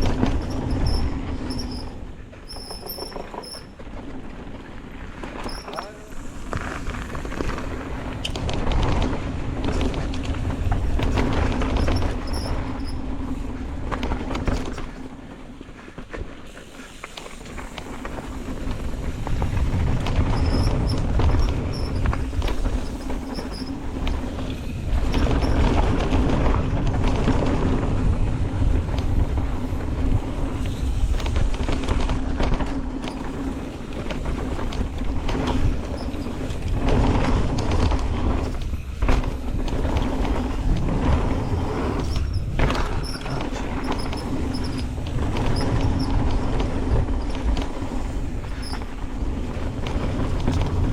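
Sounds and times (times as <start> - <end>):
bike rattling over bumps: 0.0 - 50.9
wind buffeting microphone: 3.4 - 15.6, 16.9 - 50.9.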